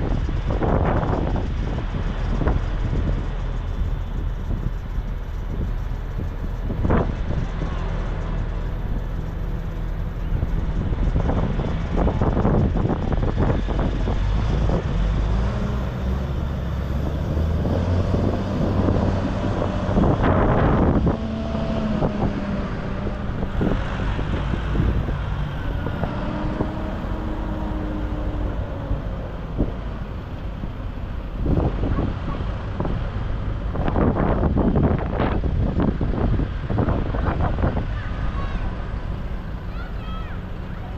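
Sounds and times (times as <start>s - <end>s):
tractor engines driving past: 0.0s - 40.9s
wind buffeting microphone: 0.0s - 40.9s.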